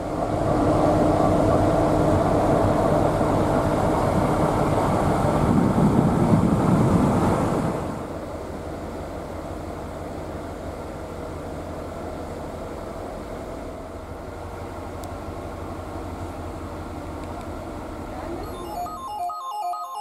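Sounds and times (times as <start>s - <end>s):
low engine hum: 0.0s - 18.4s.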